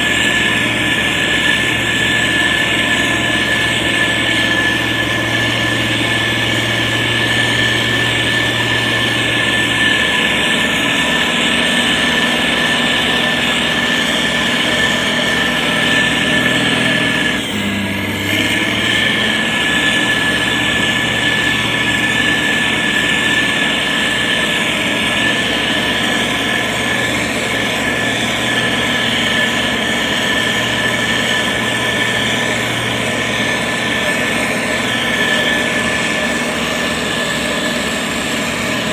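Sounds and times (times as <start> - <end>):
motor grader diesel engine running: 0.0 - 38.9.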